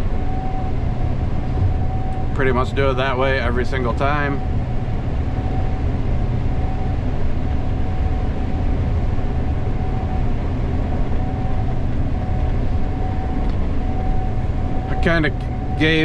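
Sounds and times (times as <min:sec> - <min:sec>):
combine harvester drone: 0:00.0 - 0:16.0
thin machine whine: 0:00.0 - 0:16.0.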